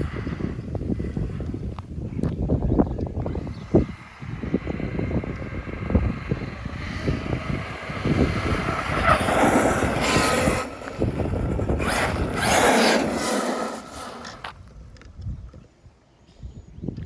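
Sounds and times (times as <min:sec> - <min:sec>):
electric rc truck passing: 0:00.0 - 0:15.1
wind buffeting microphone: 0:00.0 - 0:17.0.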